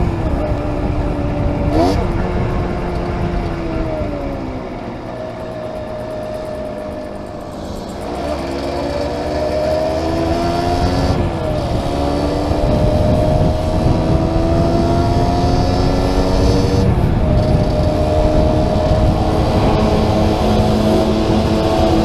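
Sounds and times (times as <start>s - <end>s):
motorcycle engine accelerating: 0.0s - 22.0s
wind rushing over microphone: 0.0s - 22.0s.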